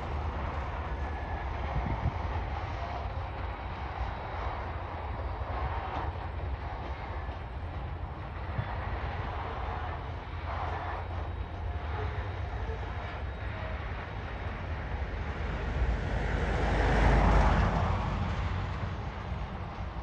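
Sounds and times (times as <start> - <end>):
broad rushing noise: 0.0 - 20.0
diesel freight train rumble: 0.0 - 20.0.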